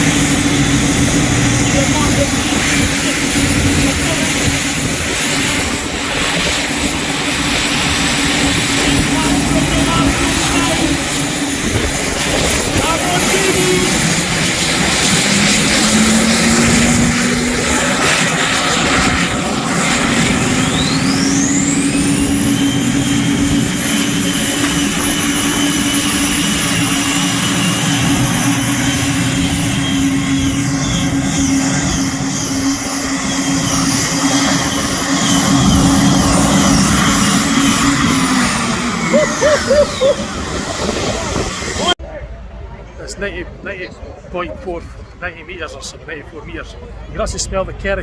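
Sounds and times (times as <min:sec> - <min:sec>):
steady low drone: 0:00.0 - 0:44.3
turbine engine whine: 0:00.0 - 0:48.0.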